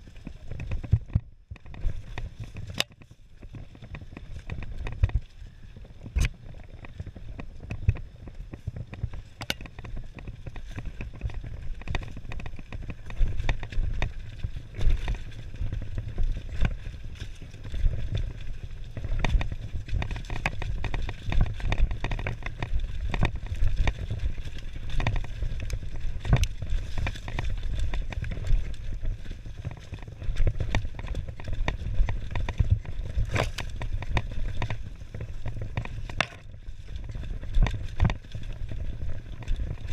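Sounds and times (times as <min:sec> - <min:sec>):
bike knocking and rattling: 0:00.0 - 0:39.9
bike tyres rumbling on dirt: 0:00.0 - 0:39.9.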